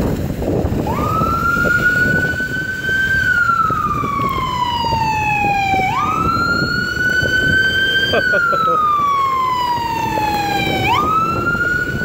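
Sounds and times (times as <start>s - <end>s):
ambulance siren wailing: 0.7s - 12.0s.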